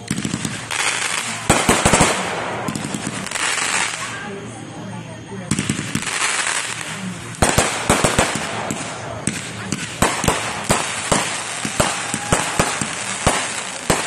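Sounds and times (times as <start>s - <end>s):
fireworks bangs: 0.0s - 4.5s, 5.4s - 14.0s
fireworks crackle: 0.0s - 14.0s.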